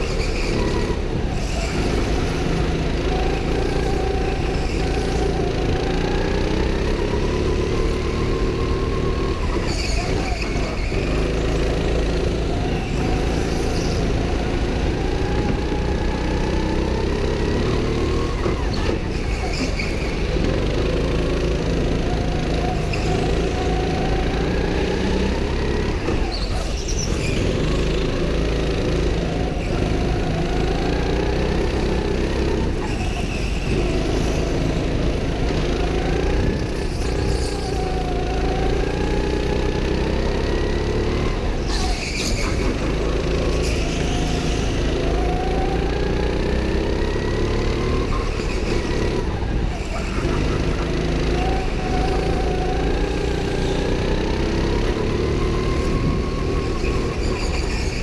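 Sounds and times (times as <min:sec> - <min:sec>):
go-kart motor: 0:00.0 - 0:58.0.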